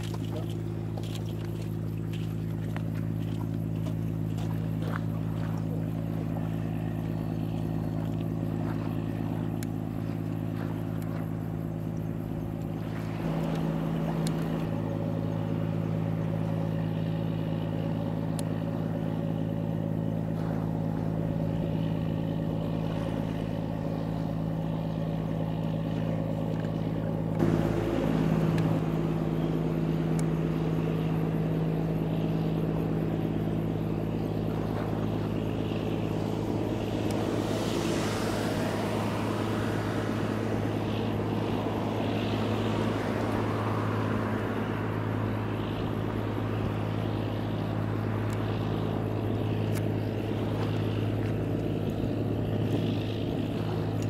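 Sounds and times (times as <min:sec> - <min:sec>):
boat diesel engine drone: 0:00.0 - 0:54.0.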